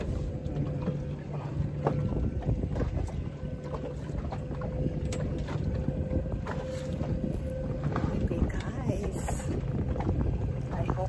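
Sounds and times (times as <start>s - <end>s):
water slapping against boat hull: 0.0s - 11.0s
wind buffeting microphone: 0.0s - 11.0s.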